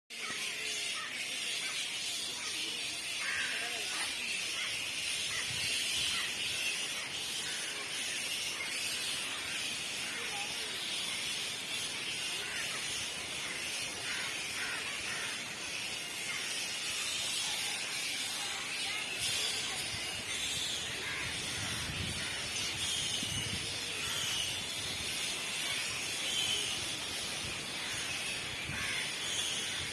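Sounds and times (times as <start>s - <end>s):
bats squeaking and chittering: 0.1s - 29.9s
steady hiss: 0.3s - 29.9s.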